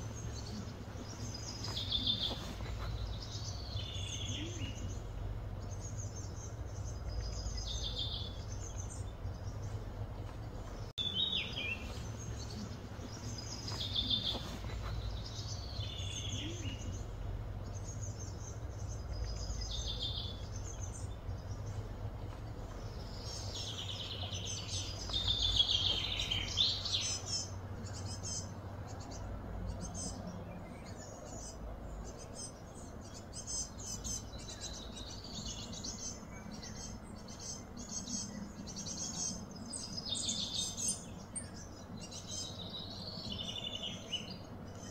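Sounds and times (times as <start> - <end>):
birds chirping: 0.0 - 44.9
low background hum: 0.0 - 44.9.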